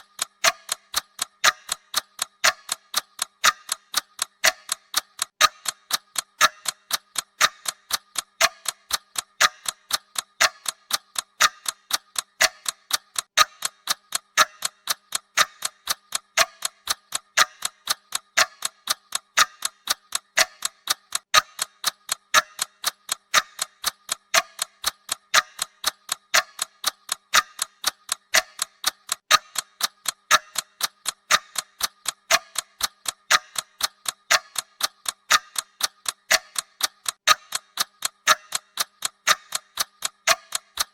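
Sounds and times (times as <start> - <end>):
countdown timer ticking: 0.0 - 40.9.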